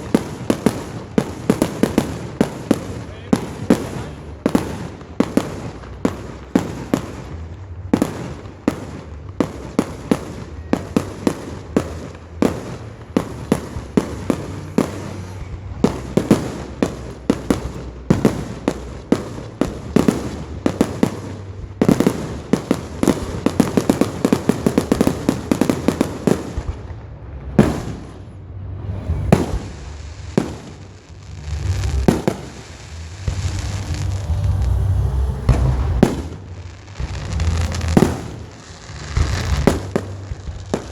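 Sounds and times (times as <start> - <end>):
fireworks bangs and cracks: 0.0 - 40.9
steady low rumble: 0.0 - 40.9.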